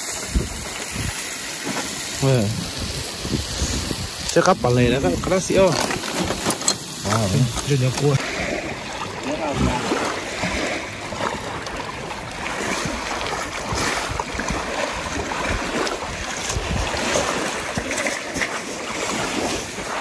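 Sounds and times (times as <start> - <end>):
wind buffeting microphone: 0.0 - 1.3, 2.2 - 20.0
water sloshing at shoreline: 0.0 - 20.0.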